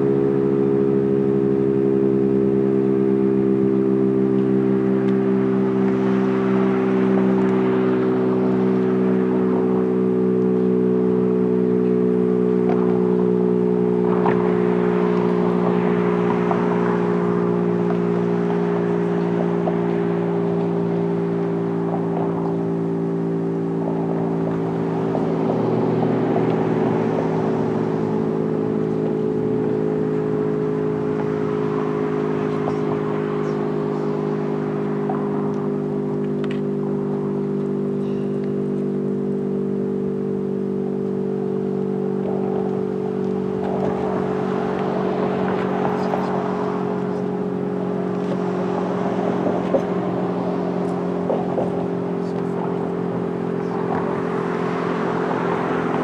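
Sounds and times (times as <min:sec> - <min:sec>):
electromechanical warning siren: 0:00.0 - 0:56.0.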